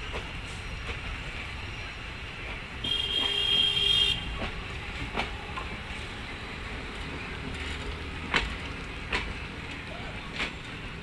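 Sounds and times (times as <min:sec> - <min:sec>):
train wheels running on rails: 0:00.0 - 0:11.0.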